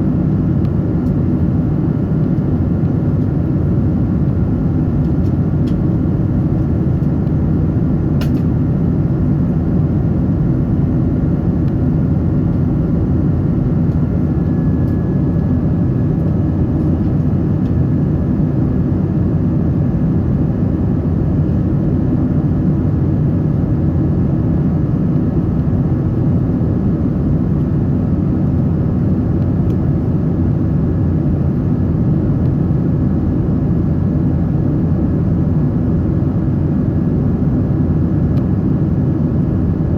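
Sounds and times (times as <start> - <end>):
airliner cabin engine and air noise: 0.0 - 39.9.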